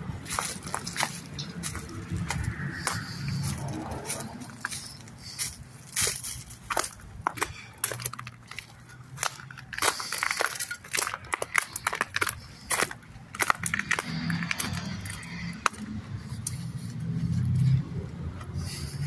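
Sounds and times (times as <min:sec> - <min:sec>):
footsteps crunching on concrete: 0:00.2 - 0:17.8.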